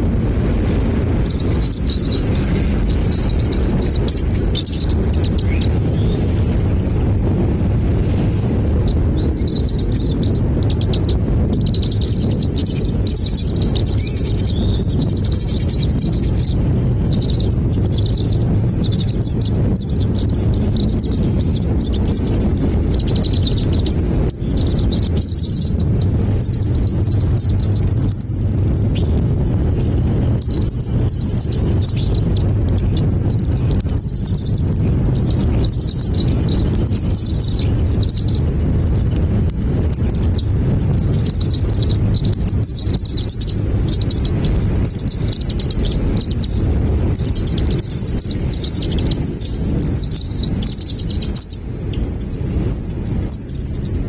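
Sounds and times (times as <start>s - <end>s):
steady low rumble: 0.0s - 54.0s
small birds chirping: 0.4s - 6.6s, 8.1s - 54.0s.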